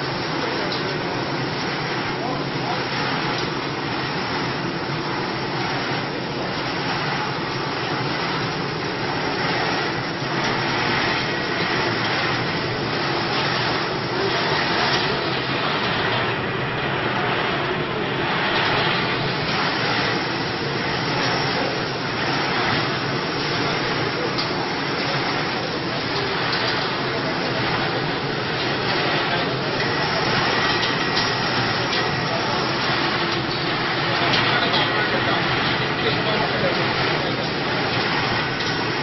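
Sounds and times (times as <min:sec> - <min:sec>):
rotating steel drum: 0:00.0 - 0:39.0.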